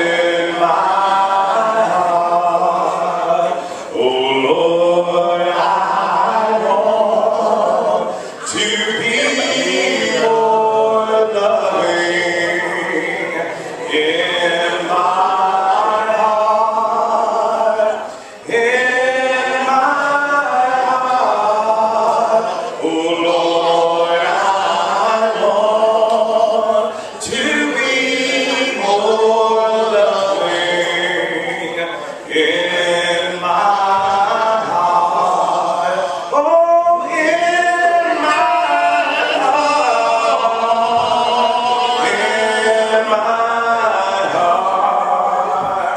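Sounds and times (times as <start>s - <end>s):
congregation singing a hymn: 0.0s - 45.9s.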